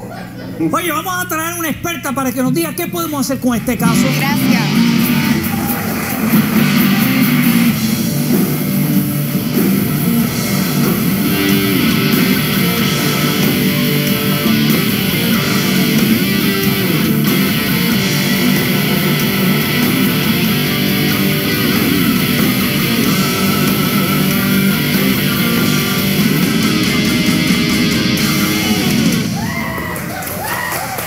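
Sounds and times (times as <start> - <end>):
loud rock music with electric guitar: 3.8 - 30.0.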